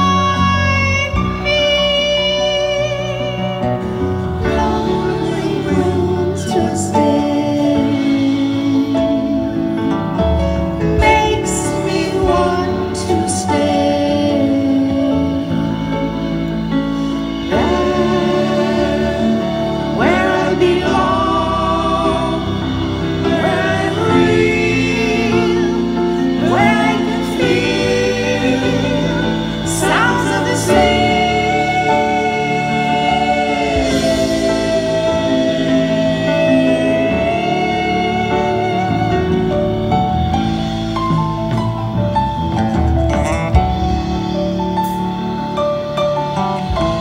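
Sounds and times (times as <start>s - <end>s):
live band playing: 0.0s - 47.0s
singers in harmony: 0.0s - 47.0s
sustained keyboard notes: 0.0s - 47.0s.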